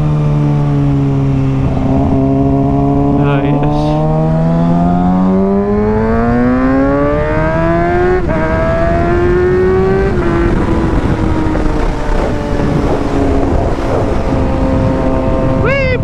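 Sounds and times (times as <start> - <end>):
motorcycle engine accelerating: 0.0 - 16.0
wind rush on microphone: 0.0 - 16.0.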